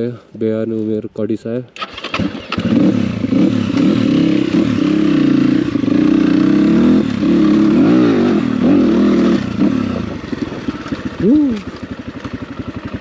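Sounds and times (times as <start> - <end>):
dirt bike engine revving: 1.8 - 13.0.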